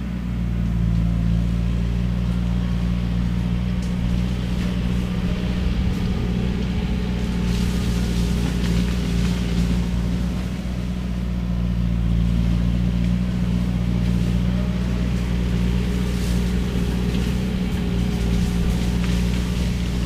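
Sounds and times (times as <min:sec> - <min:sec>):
skid steer engine droning: 0:00.0 - 0:20.0
shredder crackling through cane: 0:01.8 - 0:20.0.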